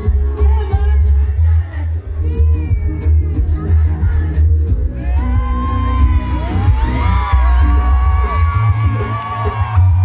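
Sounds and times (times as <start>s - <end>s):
large crowd: 0.0s - 10.0s
loud music with heavy bass: 0.0s - 10.0s.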